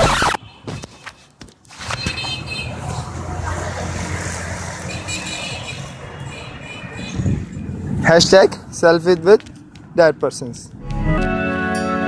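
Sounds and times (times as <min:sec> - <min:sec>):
road traffic rumble: 0:00.3 - 0:11.0.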